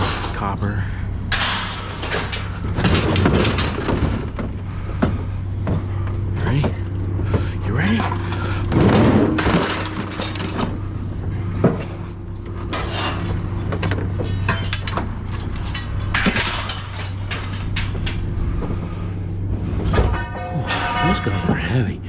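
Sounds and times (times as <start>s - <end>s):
engine running: 0.0s - 22.0s
scrap metal clanking: 0.0s - 22.0s.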